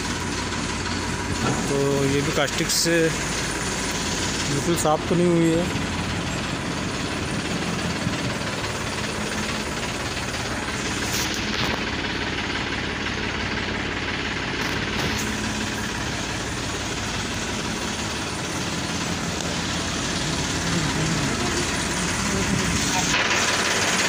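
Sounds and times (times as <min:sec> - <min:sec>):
engine running with hiss: 0:00.0 - 0:24.0.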